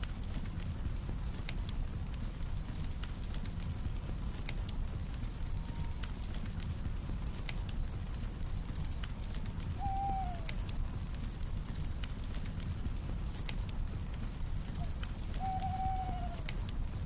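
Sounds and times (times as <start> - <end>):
campfire crackling: 0.0 - 17.0
crickets chirring: 0.0 - 17.0.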